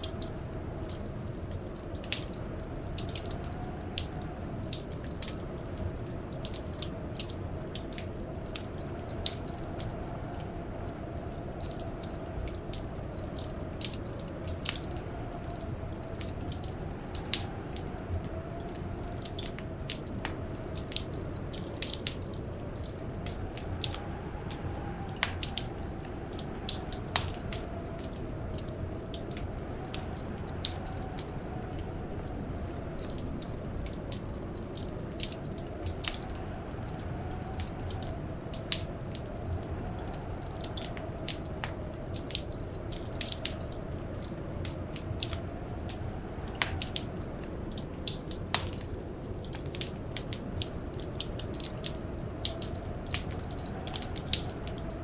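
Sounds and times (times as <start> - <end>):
steady low rumble: 0.0 - 53.1
faint wind howl: 0.0 - 55.0
wood fire crackling and popping: 0.0 - 55.0.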